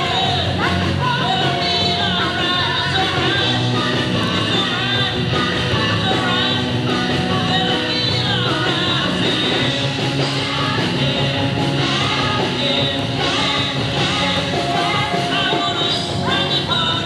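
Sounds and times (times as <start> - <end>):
drums: 0.0 - 17.0
keyboards: 0.0 - 17.0
person singing into a microphone: 0.0 - 17.0
rock band playing: 0.0 - 17.0.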